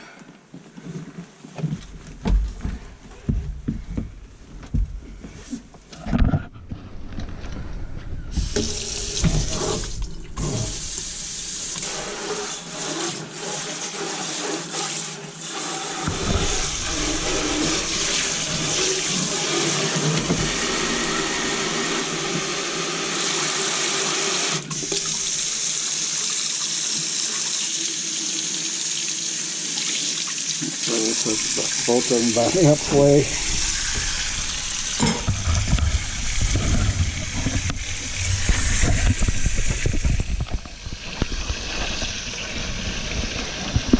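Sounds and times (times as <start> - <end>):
faucet running into sink: 8.4 - 43.9.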